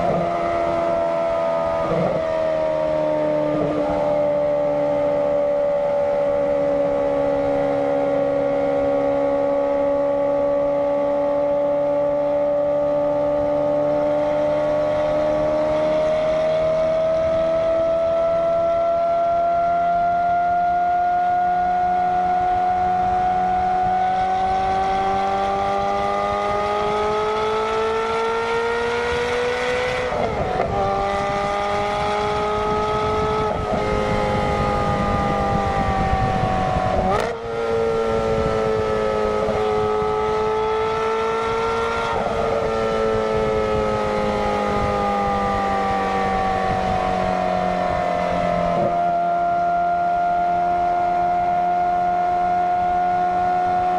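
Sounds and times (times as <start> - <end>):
sports car engine howling: 0.0 - 53.9.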